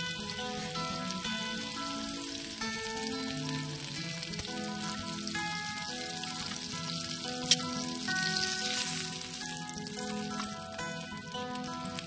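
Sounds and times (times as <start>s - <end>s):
background music with chords: 0.0s - 12.0s
food sizzling in a pan: 0.0s - 12.0s.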